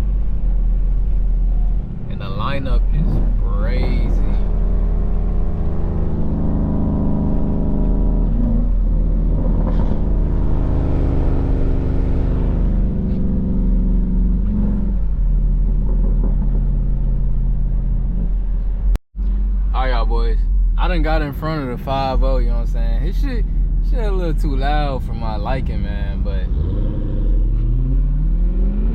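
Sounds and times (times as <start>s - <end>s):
car exhaust drone: 0.0s - 28.9s.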